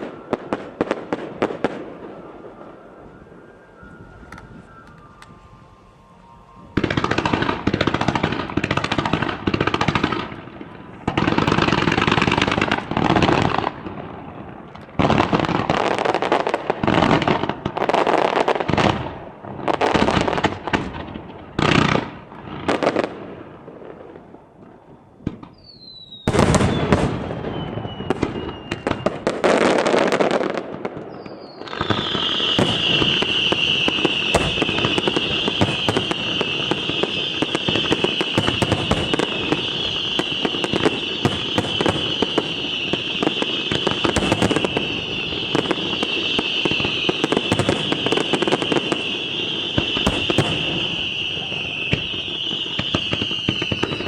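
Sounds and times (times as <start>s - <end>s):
firework falling whistle: 0.0s - 19.1s, 24.6s - 54.0s
long steady whistle: 0.0s - 20.4s, 24.7s - 54.0s
firework bursts crackling: 0.0s - 24.1s, 25.6s - 54.0s.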